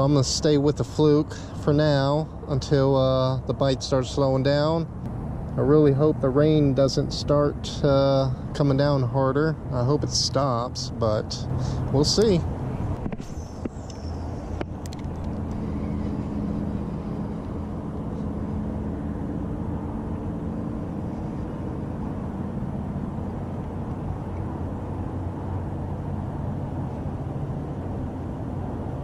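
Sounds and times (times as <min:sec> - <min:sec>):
highway traffic rumble: 0:00.0 - 0:29.0
vehicle engine hum: 0:00.0 - 0:29.0.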